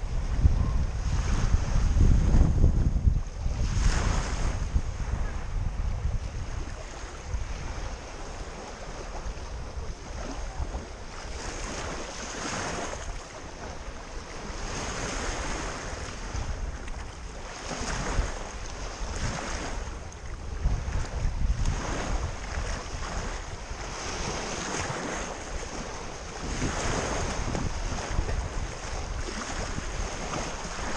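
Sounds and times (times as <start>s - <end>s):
sea waves washing in: 0.0s - 30.9s
wind rumbling on microphone: 0.0s - 30.9s.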